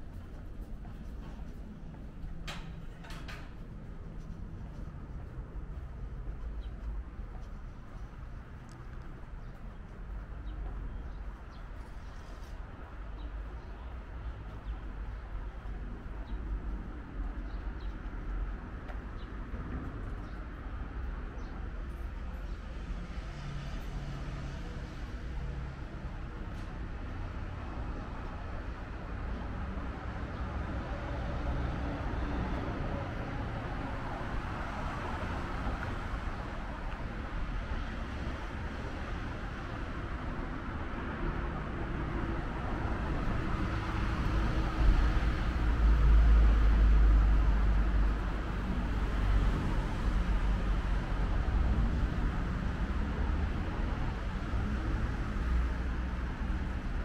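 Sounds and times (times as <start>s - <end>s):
distant city traffic hum: 0.0s - 57.0s.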